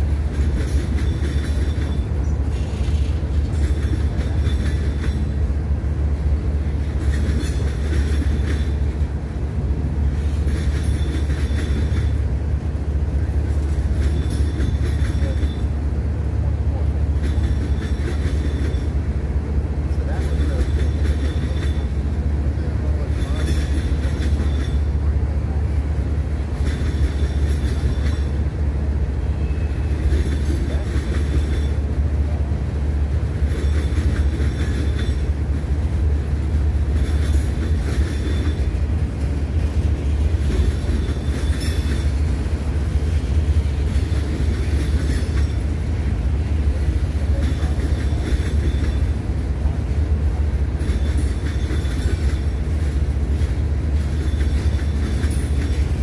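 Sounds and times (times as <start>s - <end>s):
train rolling past: 0.0s - 56.0s
train wheels clicking and rattling: 0.0s - 56.0s.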